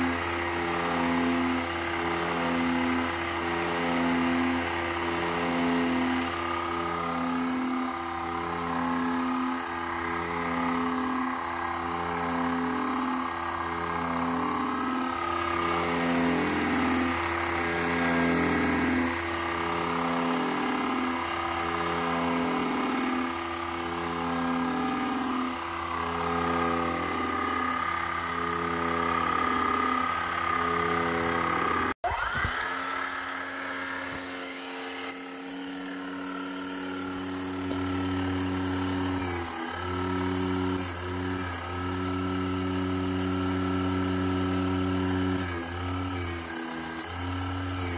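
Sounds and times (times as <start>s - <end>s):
pulsing electrical hum: 0.0s - 47.9s.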